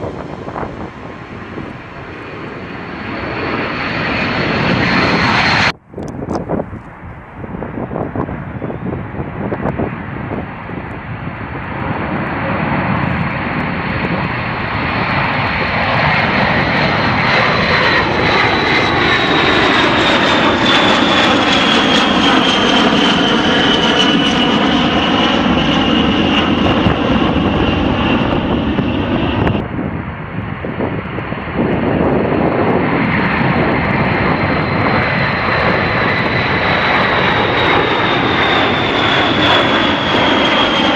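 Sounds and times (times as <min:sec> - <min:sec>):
jet engine roar: 0:00.0 - 0:40.9.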